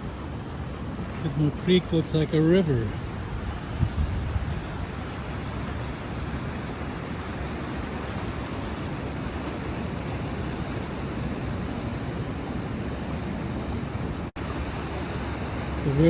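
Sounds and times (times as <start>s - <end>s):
fast-flowing creek rushing: 0.0s - 16.0s.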